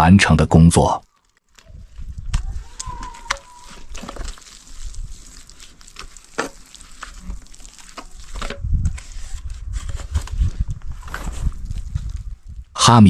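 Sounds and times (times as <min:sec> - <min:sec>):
trowel scraping wet mortar: 0:01.5 - 0:12.2.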